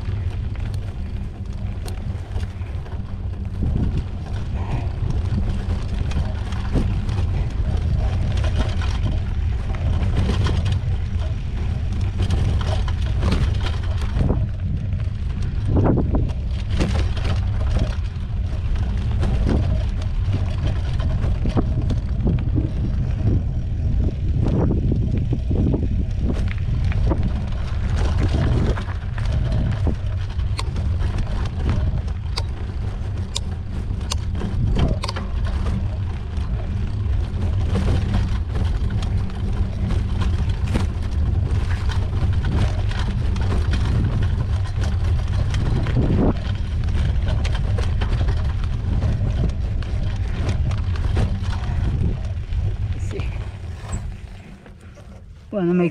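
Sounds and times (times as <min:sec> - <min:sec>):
bike clicks and rattles: 0:00.0 - 0:55.5
wind rumble on microphone: 0:00.0 - 0:55.9.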